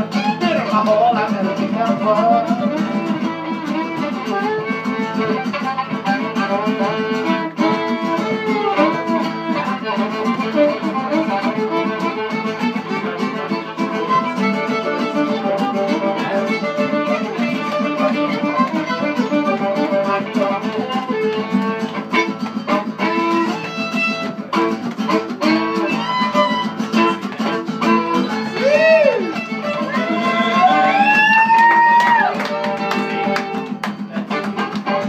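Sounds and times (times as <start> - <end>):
country band instrumental: 0.0 - 35.0.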